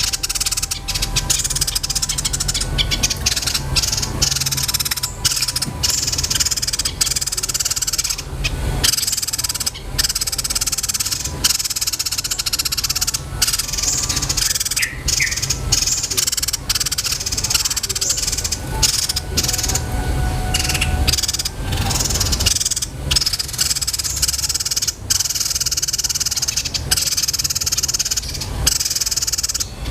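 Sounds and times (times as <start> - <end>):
songbird trilling: 0.0 - 29.9
steady low hum: 0.0 - 29.9.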